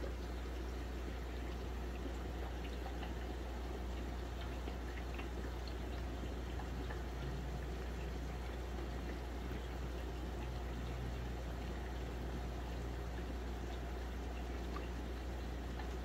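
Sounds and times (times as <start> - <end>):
small water drips: 0.0 - 16.0
water trickling and bubbling: 0.0 - 16.0.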